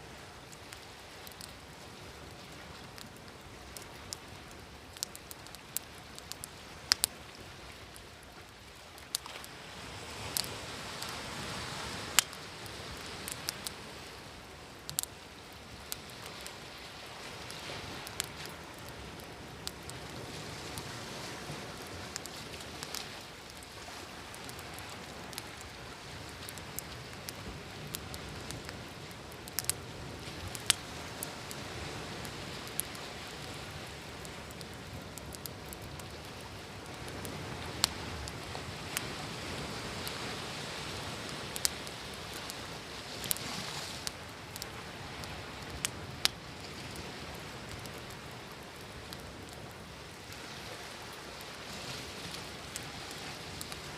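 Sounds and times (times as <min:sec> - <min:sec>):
ocean waves: 0:00.0 - 0:53.9
wood fire crackling: 0:00.1 - 0:53.9.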